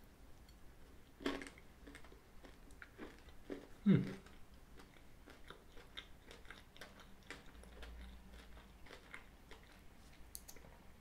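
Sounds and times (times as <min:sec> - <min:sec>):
pastry crunching while chewing: 0:01.2 - 0:10.3.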